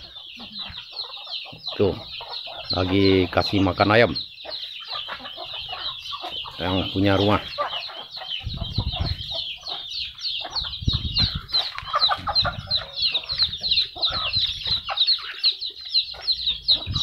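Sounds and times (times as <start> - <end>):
chicks peeping: 0.0 - 17.0
hens clucking: 0.0 - 17.0.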